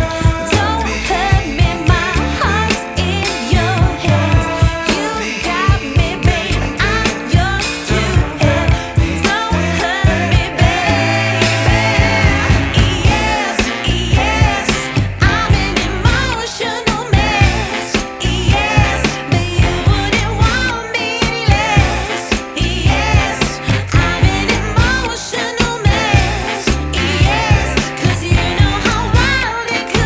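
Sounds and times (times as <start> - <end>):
pop song with woman singing: 0.0 - 30.0.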